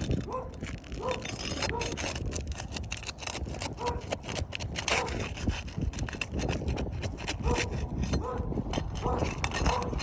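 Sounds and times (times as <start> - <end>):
roof shingles tearing: 0.0 - 10.0.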